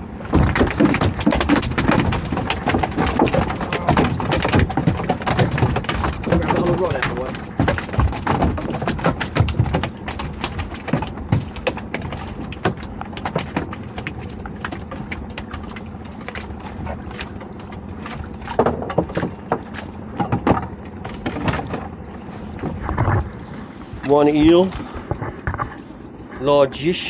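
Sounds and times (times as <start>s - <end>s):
lobster pots knocking and clattering: 0.0s - 22.0s
faint steady hum: 0.0s - 27.0s.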